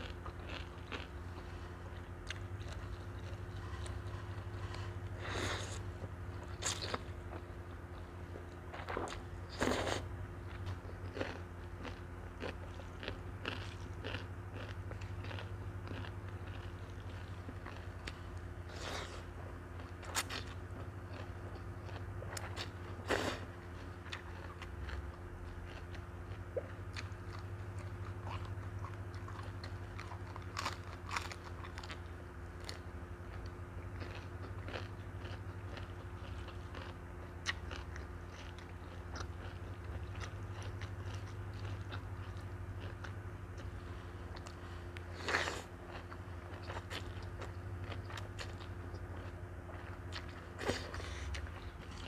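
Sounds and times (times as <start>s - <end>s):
chewing and biting: 0.0s - 52.0s
steady low hum: 0.0s - 52.0s.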